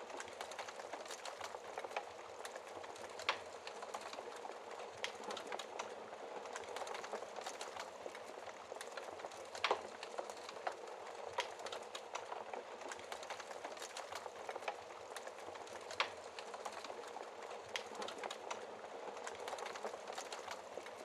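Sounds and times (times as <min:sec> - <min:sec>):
wood fire crackling: 0:00.0 - 0:21.0
fire pops and snaps: 0:00.1 - 0:21.0.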